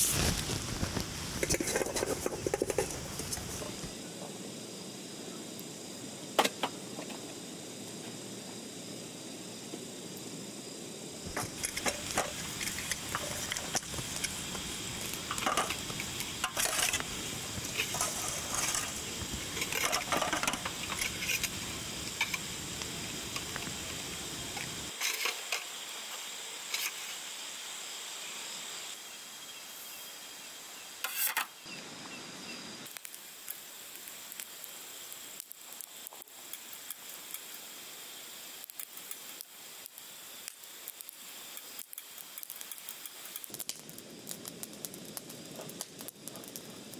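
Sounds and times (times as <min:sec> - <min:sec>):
background hiss: 0:00.0 - 0:46.9.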